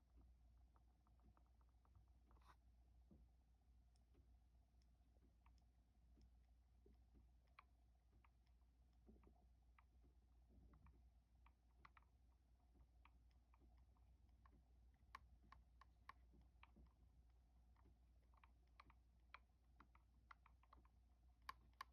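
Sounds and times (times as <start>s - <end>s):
irregular clicking: 0.0s - 21.9s.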